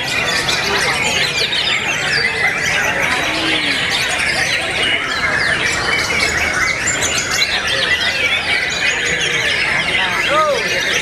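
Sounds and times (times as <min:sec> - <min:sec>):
chorus of songbirds whistling and trilling: 0:00.0 - 0:11.0.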